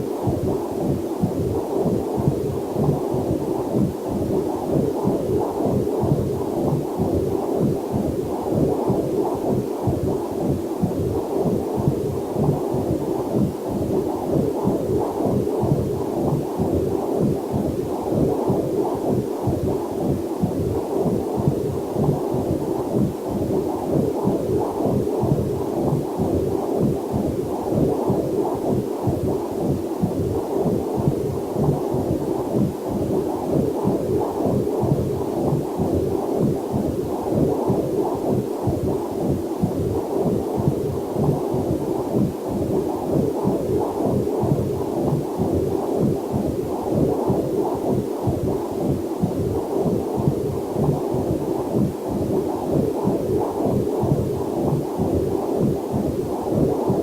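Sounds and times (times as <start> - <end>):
fetal heartbeat whooshing throbs: 0.0 - 57.0.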